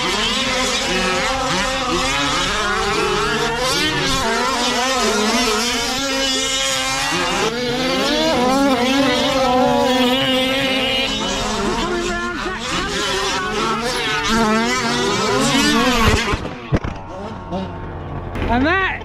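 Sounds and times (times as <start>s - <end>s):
rc truck engines revving: 0.0s - 19.0s.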